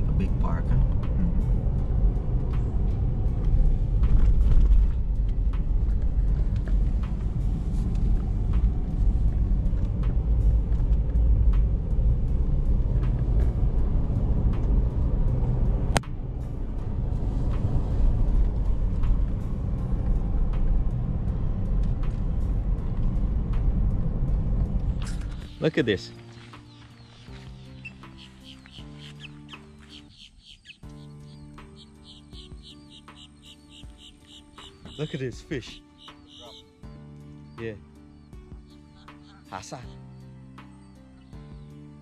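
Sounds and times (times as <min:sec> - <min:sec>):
vehicle engine and tyre rumble: 0:00.0 - 0:42.0.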